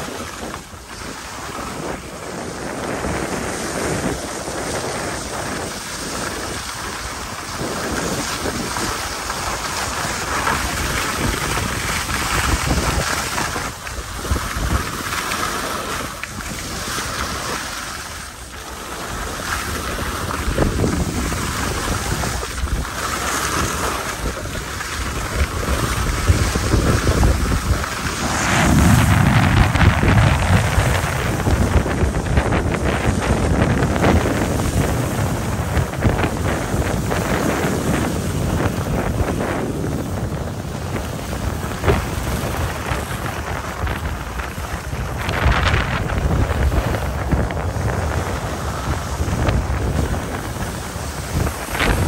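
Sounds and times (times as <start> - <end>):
skis hissing over snow: 0.0 - 52.0
wind buffeting microphone: 0.0 - 52.0.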